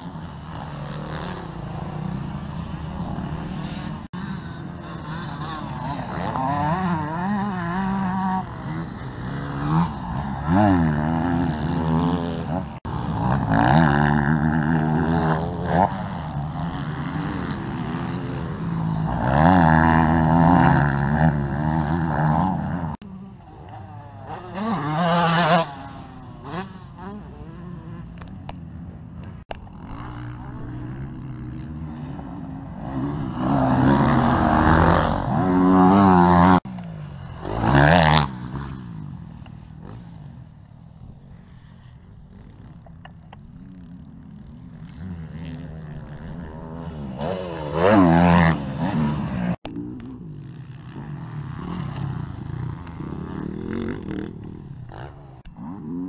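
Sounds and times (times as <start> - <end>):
dirt bikes revving: 0.0 - 56.0.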